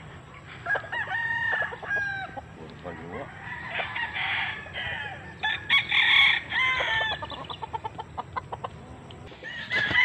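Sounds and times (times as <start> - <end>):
roosters crowing: 0.0 - 10.0.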